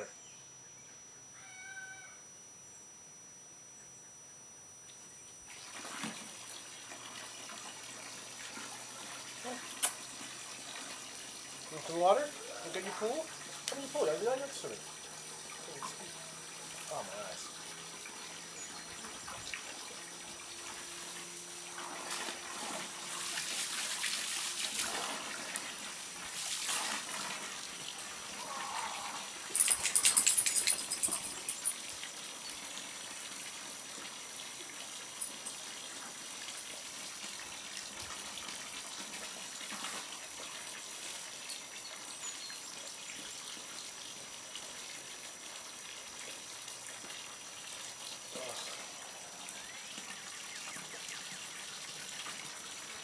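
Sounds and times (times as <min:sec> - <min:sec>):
water running: 0:05.5 - 0:53.0.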